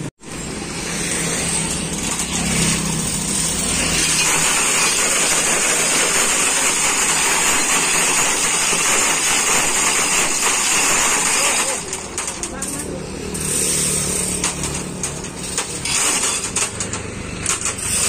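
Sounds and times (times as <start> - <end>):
vehicle engine running under load: 0.0 - 18.0.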